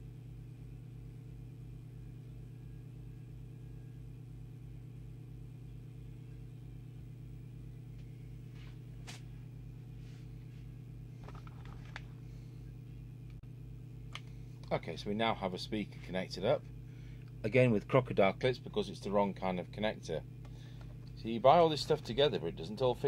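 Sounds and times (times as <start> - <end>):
low mains hum: 0.0 - 23.0.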